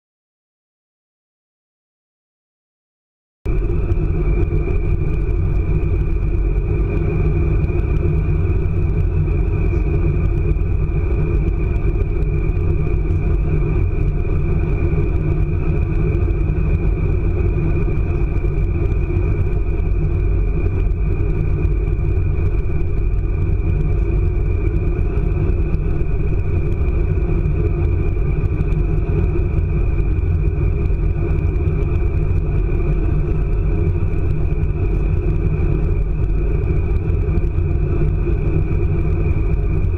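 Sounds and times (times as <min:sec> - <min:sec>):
high whine: 0:03.5 - 0:39.9
train interior rumble: 0:03.5 - 0:39.9.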